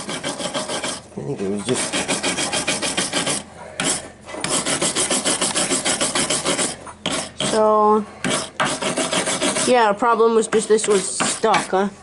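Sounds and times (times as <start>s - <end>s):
rasping scrubbing on metal: 0.0s - 11.8s.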